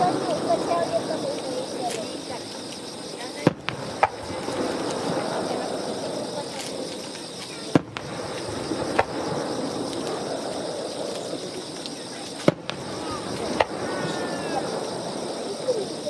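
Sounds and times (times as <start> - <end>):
fireworks bangs: 0.0 - 16.0
high insect trill: 0.0 - 16.0
murmur of crowd chatter: 0.0 - 16.0.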